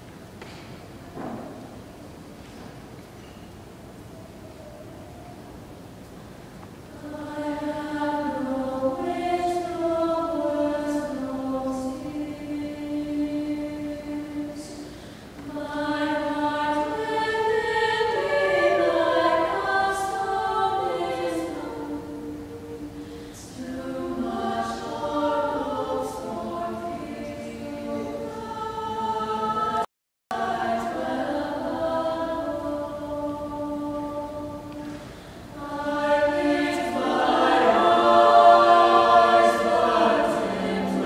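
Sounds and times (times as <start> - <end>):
choir singing held chords: 6.8 - 41.0.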